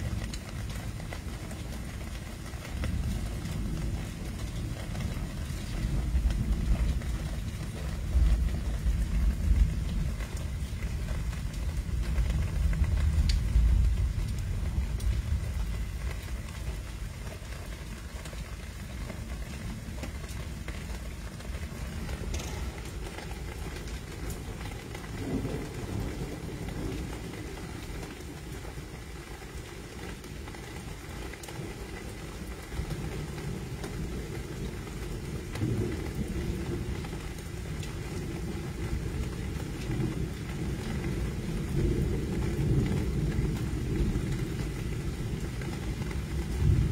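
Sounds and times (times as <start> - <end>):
low thunder rumble: 0.0 - 46.9
steady rain: 0.0 - 46.9.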